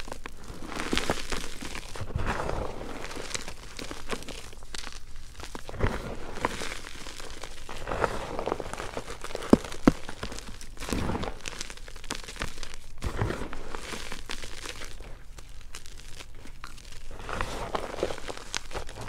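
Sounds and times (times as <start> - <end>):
hands crunching chalk powder: 0.0 - 19.0.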